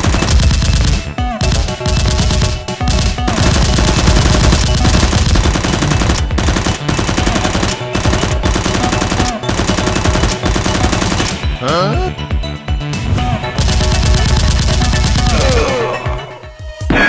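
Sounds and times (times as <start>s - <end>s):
machine-gun fire: 0.0s - 11.6s, 13.0s - 16.2s.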